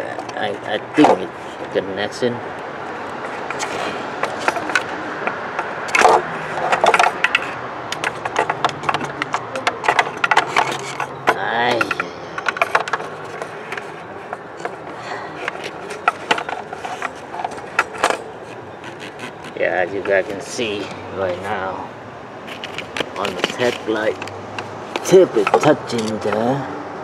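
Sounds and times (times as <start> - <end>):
probe tapping and scraping metal: 0.1 - 1.9, 2.5 - 21.8, 22.4 - 26.6.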